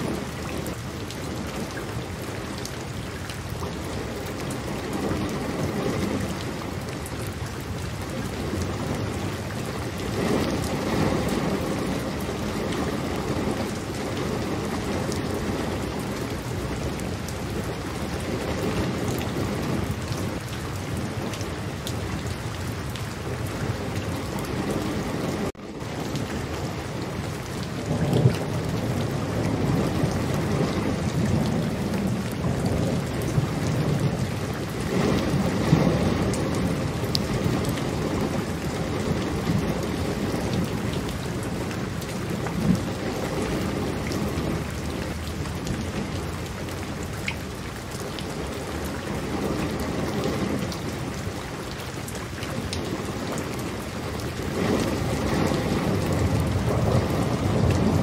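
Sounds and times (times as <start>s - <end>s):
heavy rain: 0.0s - 58.0s
rolling thunder rumble: 3.8s - 51.7s, 52.5s - 58.0s.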